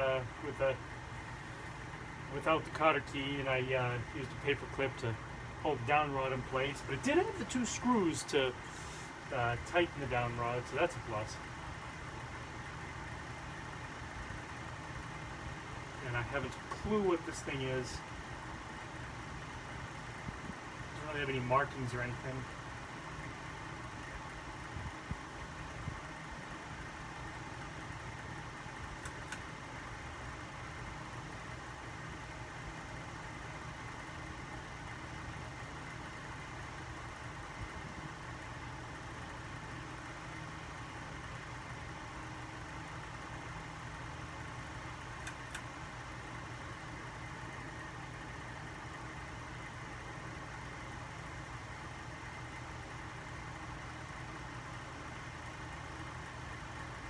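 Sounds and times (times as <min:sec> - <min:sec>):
ceiling fan motor hum: 0:00.0 - 0:57.0
faint fan clicks: 0:00.0 - 0:57.0.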